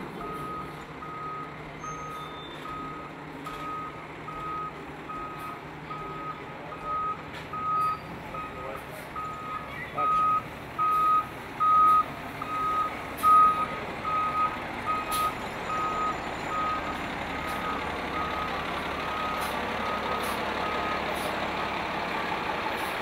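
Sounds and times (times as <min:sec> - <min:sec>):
street noise: 0:00.0 - 0:23.0
truck engine: 0:00.0 - 0:23.0
reverse alarm beeping: 0:00.2 - 0:21.0.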